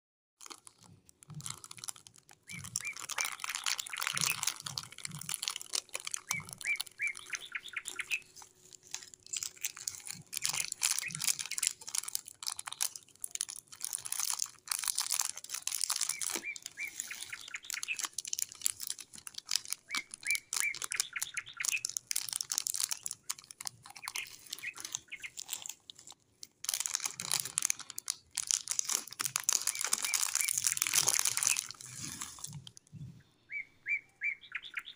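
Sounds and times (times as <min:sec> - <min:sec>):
plastic wrappers crinkling: 0:00.4 - 0:32.8.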